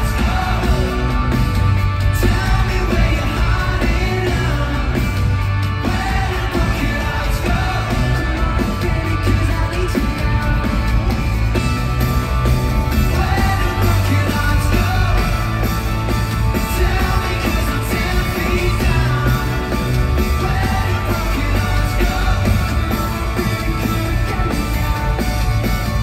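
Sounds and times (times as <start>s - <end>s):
person singing: 0.0s - 11.8s, 12.9s - 26.0s
live rock band: 0.0s - 26.0s.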